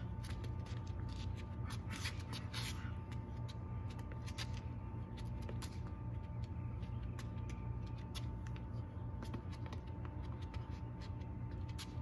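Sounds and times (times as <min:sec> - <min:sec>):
sneakers scuffing on asphalt: 0:00.0 - 0:12.0
steady low rumble: 0:00.0 - 0:12.0.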